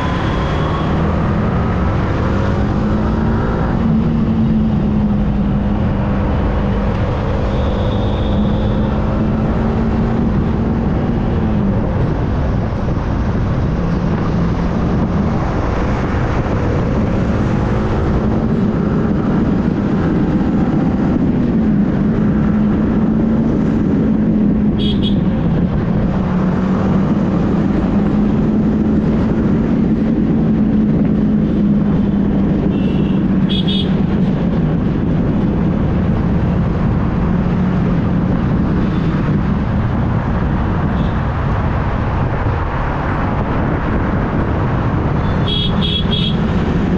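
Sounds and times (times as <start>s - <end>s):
motorcycle engine cruising: 0.0s - 46.9s
wind rush on microphone: 0.0s - 46.9s.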